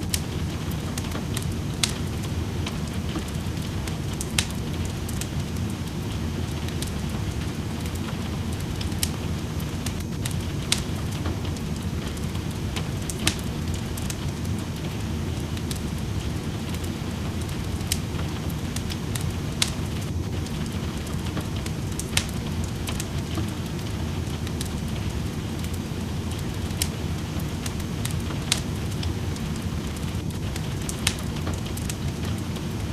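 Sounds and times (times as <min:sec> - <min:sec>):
sharp pops of fire: 0:00.0 - 0:32.9
steady rain: 0:00.0 - 0:32.9
wood fire crackling: 0:00.0 - 0:32.9.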